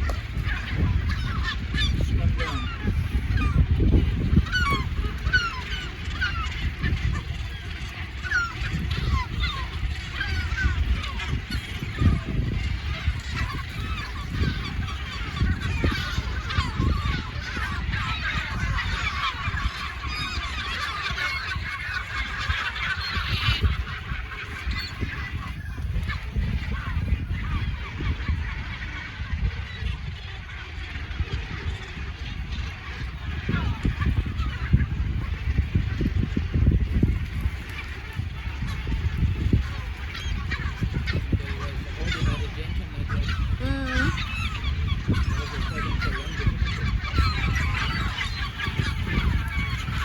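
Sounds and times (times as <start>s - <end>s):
gulls calling: 0.0s - 50.0s.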